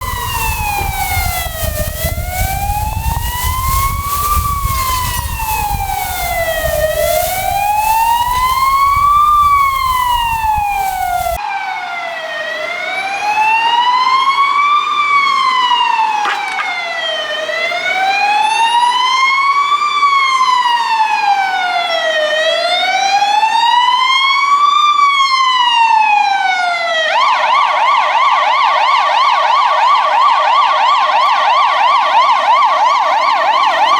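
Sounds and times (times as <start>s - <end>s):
ambulance siren: 0.0s - 33.9s.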